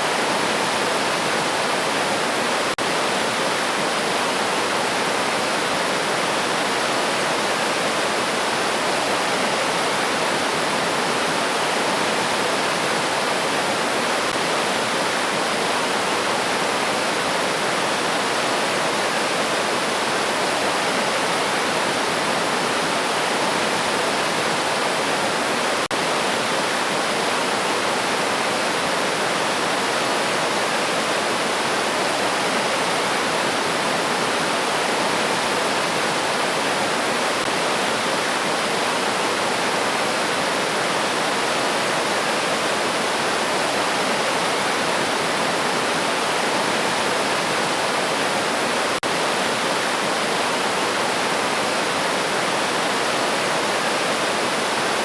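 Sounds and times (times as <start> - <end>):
river stream rushing: 0.0 - 55.0.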